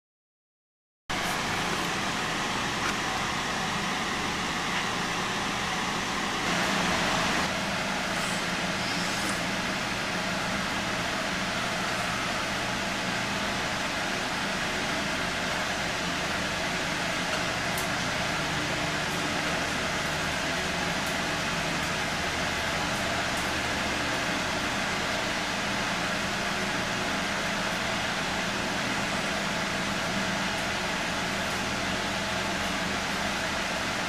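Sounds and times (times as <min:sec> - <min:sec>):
steady background noise: 0:01.1 - 0:34.0.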